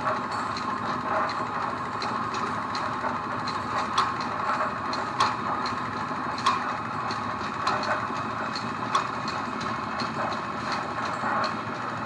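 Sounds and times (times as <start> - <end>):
machinery running: 0.0 - 12.0.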